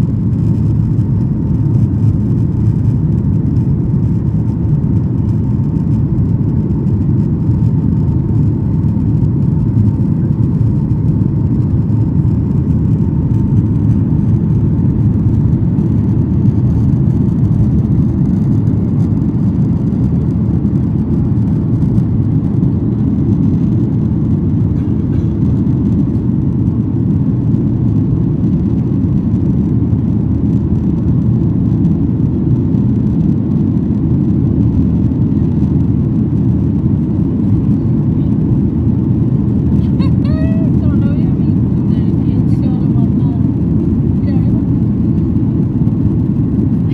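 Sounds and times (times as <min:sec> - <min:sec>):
faint steady whine: 0:00.0 - 0:46.9
jet engines roaring: 0:00.0 - 0:46.9.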